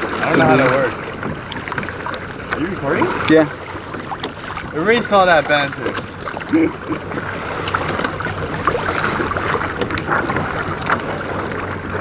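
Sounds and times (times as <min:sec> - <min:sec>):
water lapping against kayak hull: 0:00.0 - 0:12.0.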